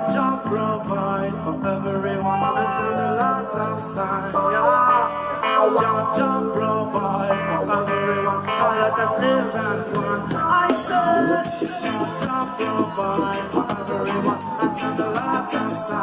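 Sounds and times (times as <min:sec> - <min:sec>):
guitar: 0:00.0 - 0:16.0
live reggae band playing: 0:00.0 - 0:16.0.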